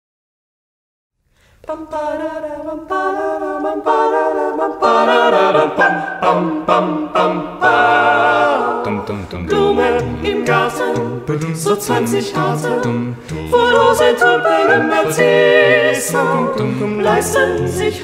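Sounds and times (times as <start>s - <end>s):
a cappella ensemble singing: 1.6s - 18.0s.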